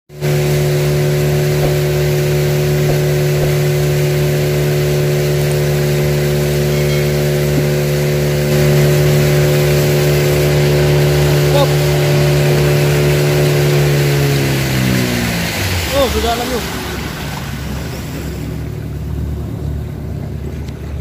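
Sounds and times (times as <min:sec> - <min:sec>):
small boat engine running: 0:00.1 - 0:21.0.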